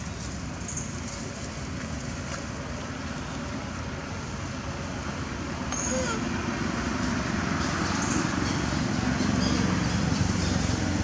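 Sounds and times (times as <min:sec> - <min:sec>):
outdoor background hiss and rumble: 0:00.0 - 0:11.0.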